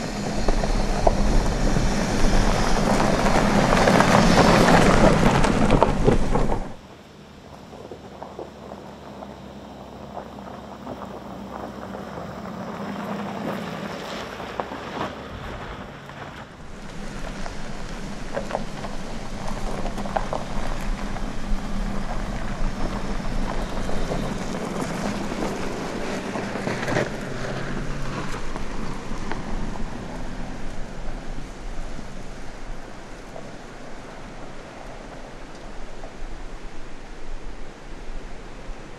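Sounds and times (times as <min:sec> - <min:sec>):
tyres crunching on gravel: 0:00.0 - 0:37.0
car engine hum: 0:00.0 - 0:38.9.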